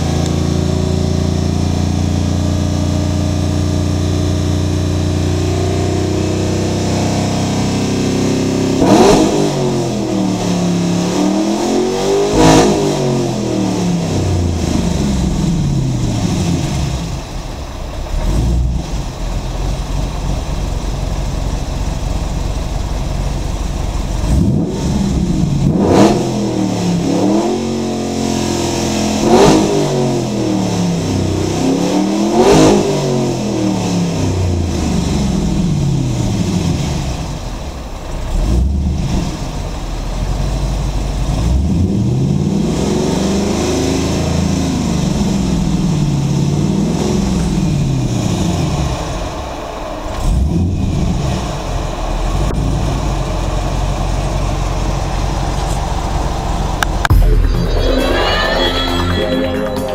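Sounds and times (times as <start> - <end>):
car engine revving: 0.0 - 59.3.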